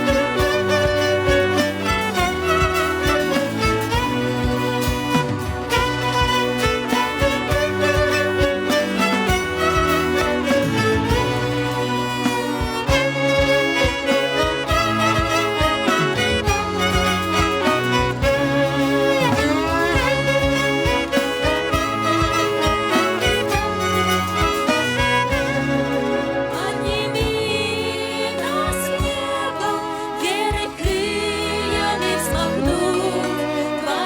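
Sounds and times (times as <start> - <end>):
steady drum beat: 0.0 - 34.0
violin melody: 0.0 - 34.0.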